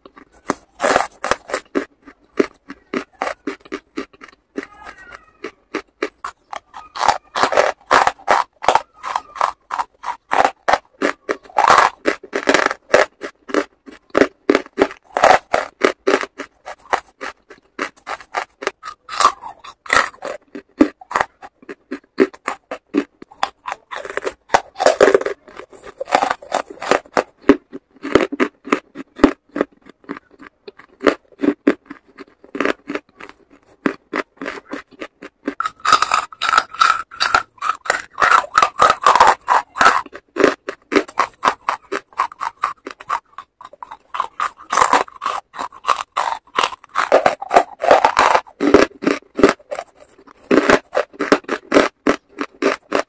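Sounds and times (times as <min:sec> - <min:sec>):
chewing hard charcoal crunches: 0:00.0 - 0:53.0.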